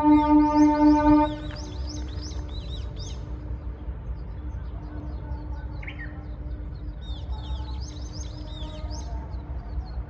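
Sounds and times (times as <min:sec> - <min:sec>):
small birds chirping: 0:01.3 - 0:10.0.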